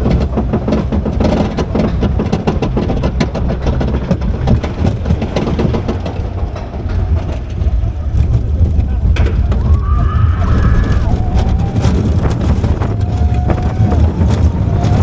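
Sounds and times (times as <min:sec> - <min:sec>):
roller coaster clattering on track: 0:00.0 - 0:15.0.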